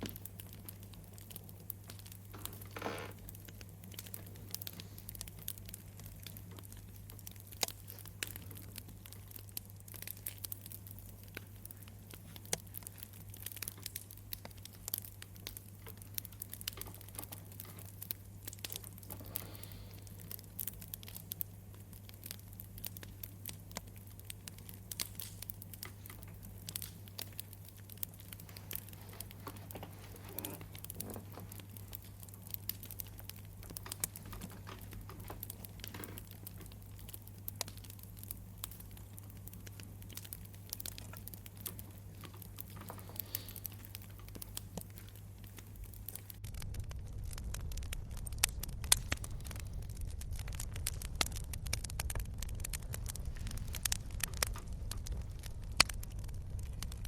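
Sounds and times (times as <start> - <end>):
campfire crackling: 0.0 - 57.0
low fire rumble: 0.0 - 57.0.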